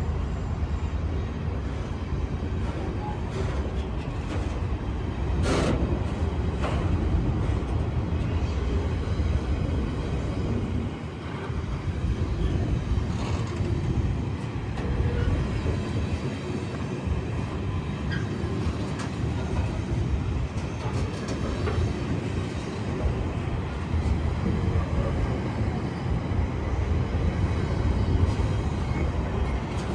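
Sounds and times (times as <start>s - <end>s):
train rumbling: 0.0s - 29.9s.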